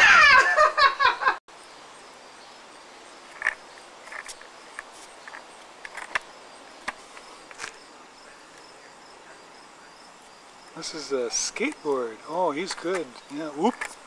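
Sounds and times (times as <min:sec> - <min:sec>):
crickets chirping: 0:00.4 - 0:14.0.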